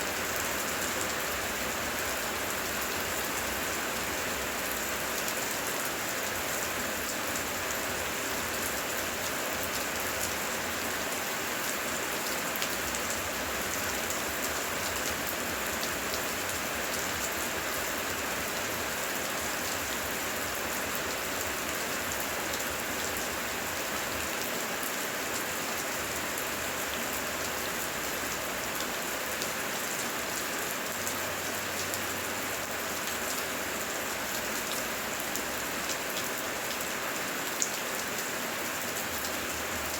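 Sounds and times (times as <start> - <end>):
heavy rain pattering: 0.1 - 39.9.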